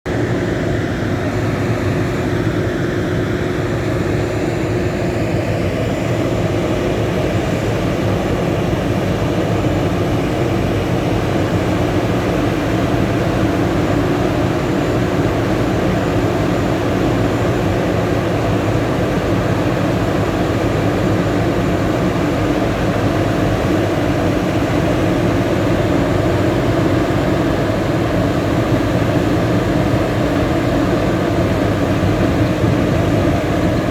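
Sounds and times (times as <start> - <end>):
diesel engine and machinery droning: 0.1 - 33.9.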